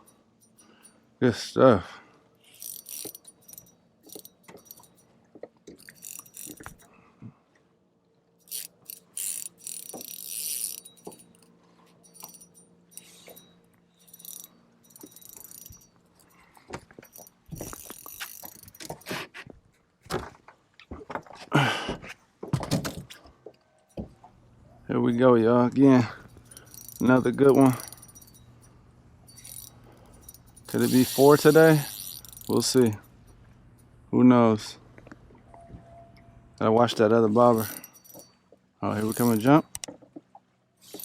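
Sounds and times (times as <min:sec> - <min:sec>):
fishing gear clicking and rattling: 0:00.0 - 0:01.2, 0:02.2 - 0:07.0, 0:08.1 - 0:21.6, 0:22.5 - 0:34.1, 0:34.9 - 0:41.0.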